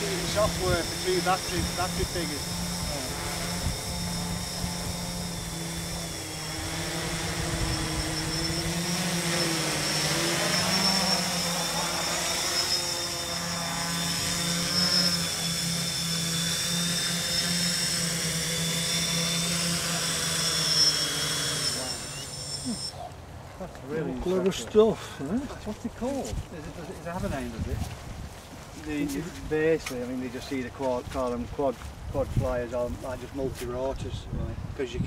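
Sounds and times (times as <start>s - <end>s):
quadcopter motors whirring: 0.0s - 23.2s, 23.8s - 35.0s.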